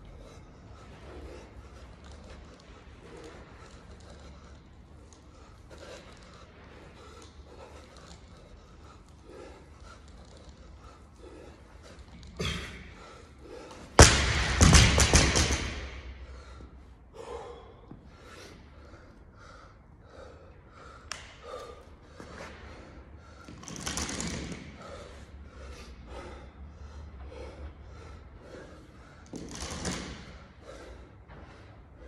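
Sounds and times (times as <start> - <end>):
man breathing hard: 0.0 - 32.0
steady low hum: 0.0 - 32.0.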